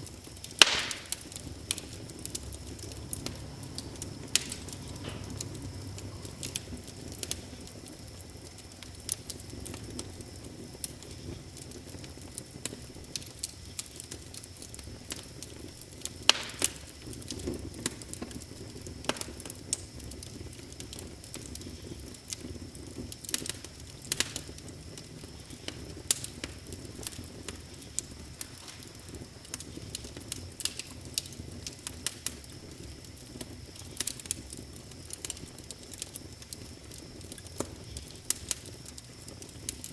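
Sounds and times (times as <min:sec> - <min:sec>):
fire pops and snaps: 0:00.0 - 0:39.9
rush of flames: 0:00.0 - 0:39.9.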